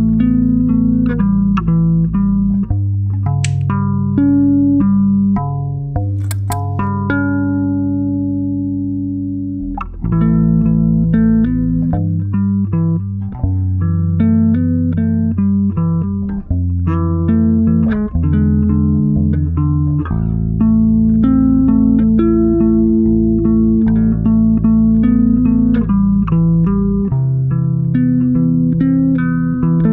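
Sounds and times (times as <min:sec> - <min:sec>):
plucked-string melody: 0:00.0 - 0:29.9
sustained bass line: 0:00.0 - 0:29.9.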